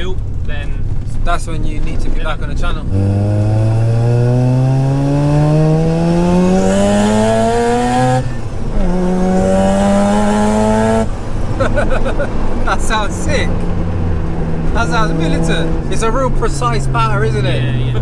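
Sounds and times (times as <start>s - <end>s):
rotary engine accelerating hard: 2.6s - 11.6s, 12.2s - 18.0s.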